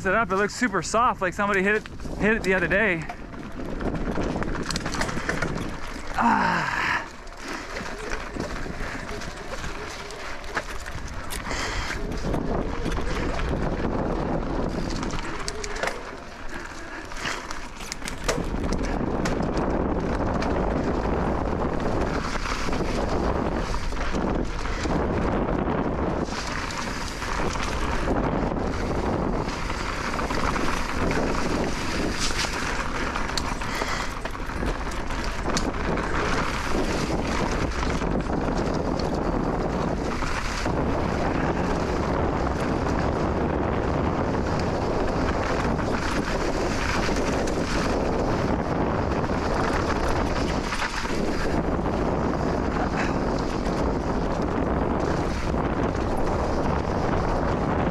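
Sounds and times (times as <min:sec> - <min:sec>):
wind rushing over microphone: 0:00.0 - 0:57.9
bike rattles and knocks: 0:01.4 - 0:57.9.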